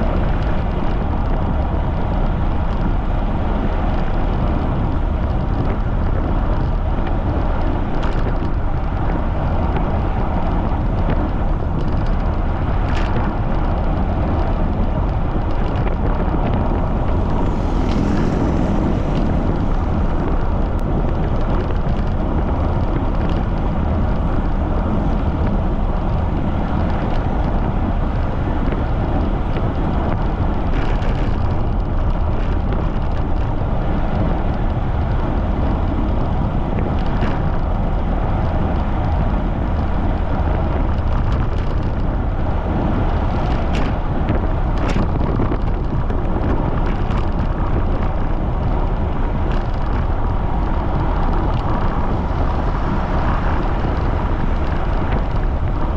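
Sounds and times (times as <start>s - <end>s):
bicycle ticks: 0.0s - 55.9s
wind buffeting microphone: 0.0s - 55.9s.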